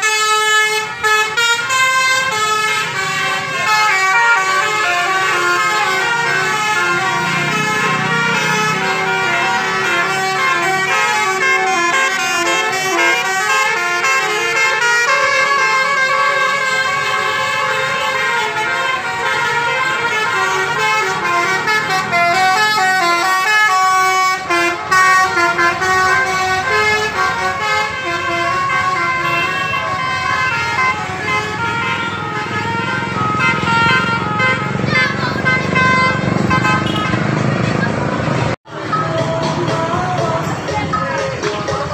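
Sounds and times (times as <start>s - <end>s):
musical air horns: 0.0s - 39.3s
street traffic: 0.0s - 41.9s.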